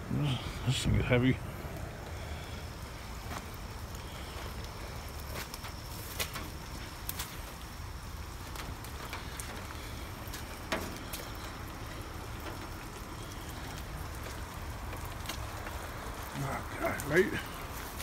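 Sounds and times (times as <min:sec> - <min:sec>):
steady low rumble: 0:00.0 - 0:18.0
twig clicks: 0:01.7 - 0:18.0
branches brushing and scraping: 0:02.8 - 0:18.0.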